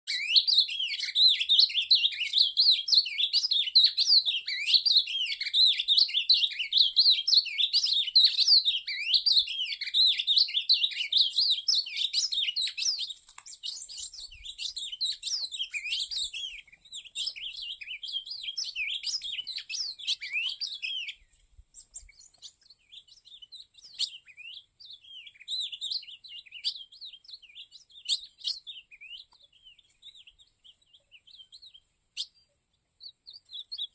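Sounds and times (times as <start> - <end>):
bird singing high chirps: 0.0 - 33.9.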